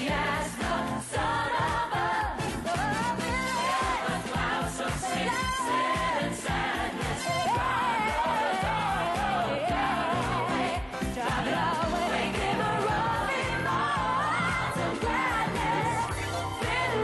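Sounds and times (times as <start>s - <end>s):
pop-gospel band with steady beat: 0.0s - 17.0s.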